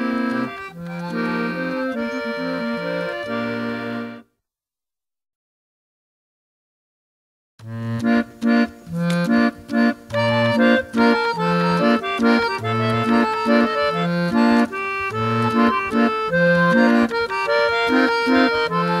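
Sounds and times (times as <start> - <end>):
accordion playing: 0.0 - 4.3, 7.6 - 19.0.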